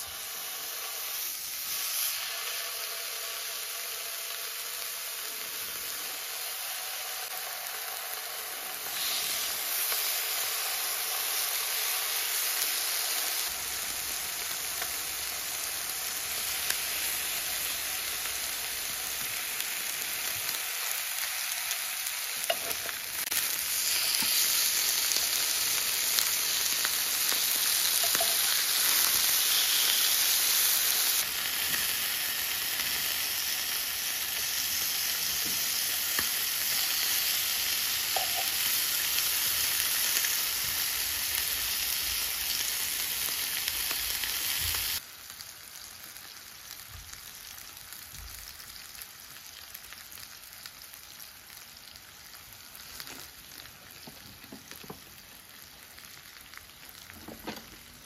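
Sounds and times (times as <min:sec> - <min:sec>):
meat sizzling on grill pan: 0:00.0 - 0:58.0.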